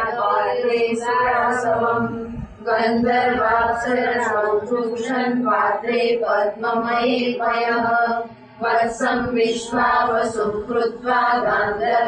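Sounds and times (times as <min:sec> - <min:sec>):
woman chanting: 0:00.0 - 0:12.0.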